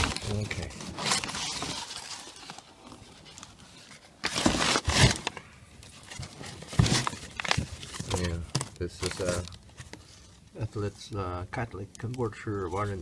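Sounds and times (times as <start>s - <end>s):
paper wrapping rustling: 0.0s - 11.2s.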